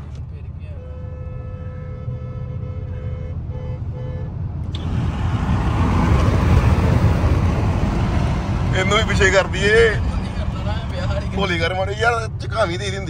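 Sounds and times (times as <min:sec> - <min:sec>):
road and engine rumble: 0:00.0 - 0:13.0
wind and tyre noise: 0:00.0 - 0:13.0.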